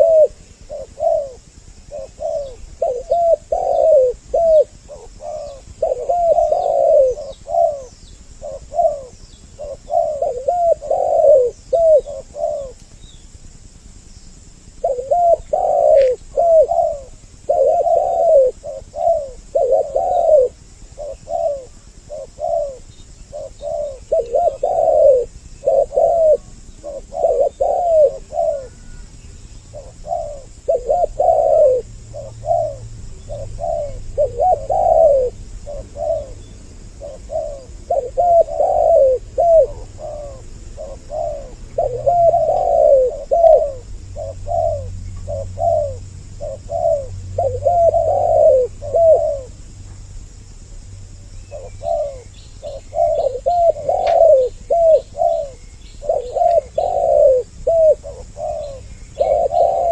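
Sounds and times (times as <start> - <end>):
doves cooing: 0.0 - 13.4, 14.5 - 49.7, 51.2 - 59.9.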